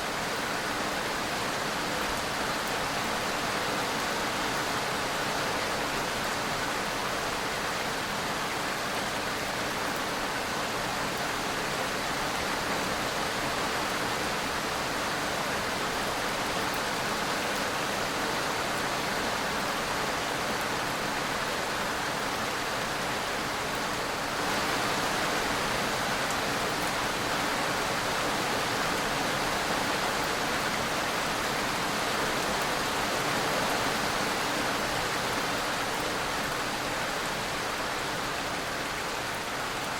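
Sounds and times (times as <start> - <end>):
steady rain-like hiss: 0.0 - 39.9.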